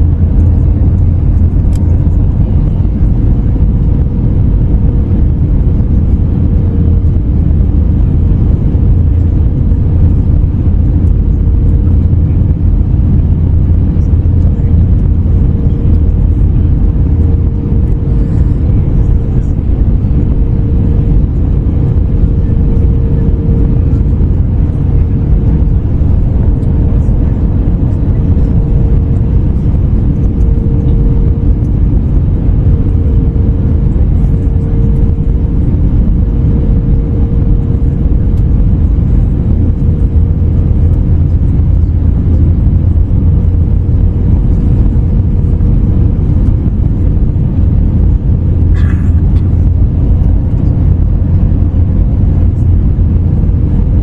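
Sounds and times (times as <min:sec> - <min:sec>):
airliner cabin rumble: 0:00.0 - 0:54.0
steady hum: 0:00.0 - 0:54.0.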